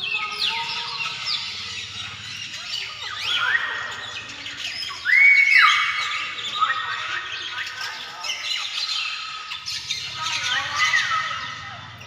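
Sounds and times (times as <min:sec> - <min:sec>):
birds squawking and whistling: 0:00.0 - 0:12.0.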